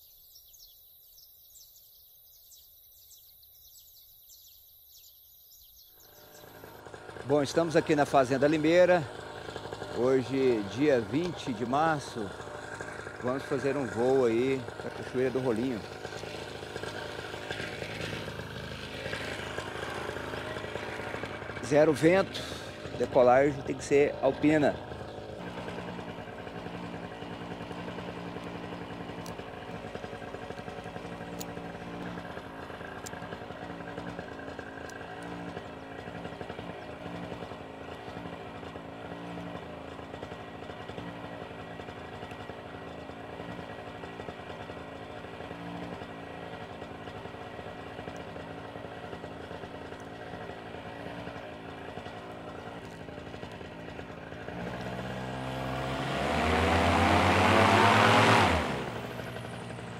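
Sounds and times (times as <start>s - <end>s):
paramotor engine idling: 0.4s - 59.9s.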